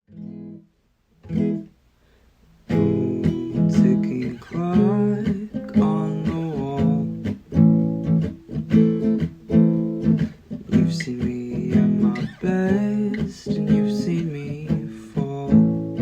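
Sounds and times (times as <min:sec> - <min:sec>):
acoustic guitar strumming: 0:00.1 - 0:01.8, 0:02.6 - 0:16.0
acoustic guitar chords: 0:00.1 - 0:16.0.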